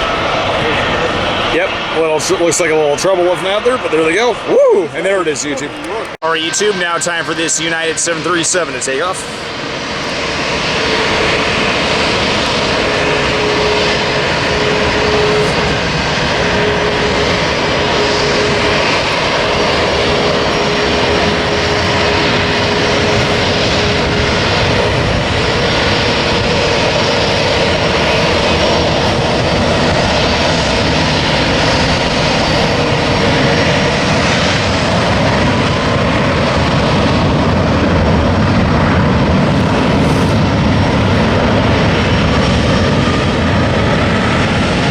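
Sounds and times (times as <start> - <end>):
jet airliner taking off: 0.0 - 44.9.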